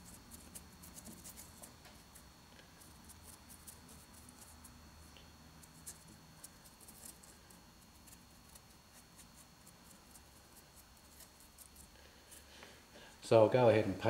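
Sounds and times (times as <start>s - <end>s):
paintbrush dabbing and stroking: 0.0s - 12.5s.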